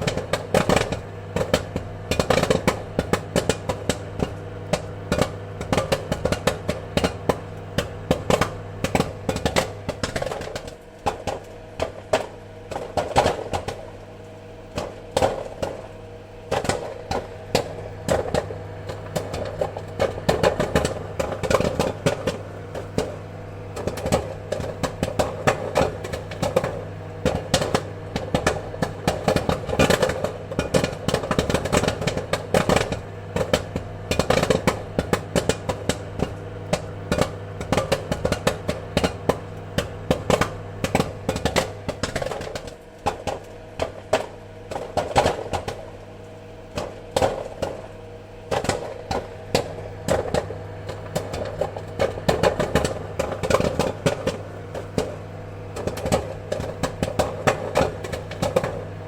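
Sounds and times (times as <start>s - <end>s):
popcorn popping: 0.0s - 59.0s
steady low hum: 0.0s - 59.0s.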